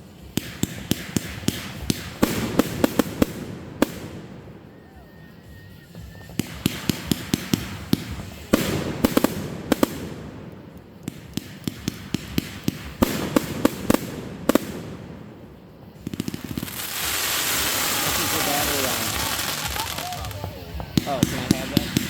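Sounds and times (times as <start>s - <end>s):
fireworks banging: 0.0s - 22.0s
fireworks hiss and crackle: 0.0s - 22.0s.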